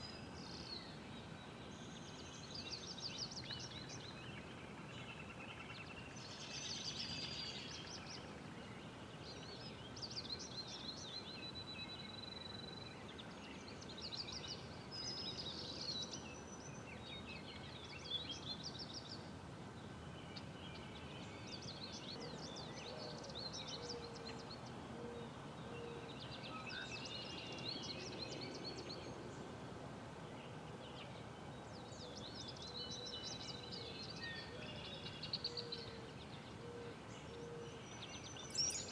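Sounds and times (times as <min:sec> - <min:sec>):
outdoor background hiss: 0:00.0 - 0:38.9
songbirds singing: 0:00.0 - 0:38.9.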